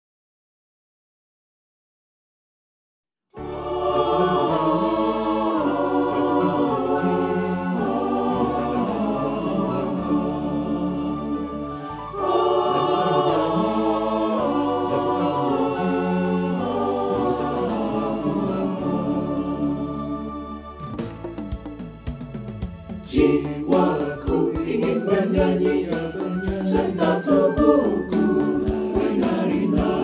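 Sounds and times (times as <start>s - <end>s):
mixed choir singing a hymn: 3.4s - 21.0s, 23.1s - 30.0s.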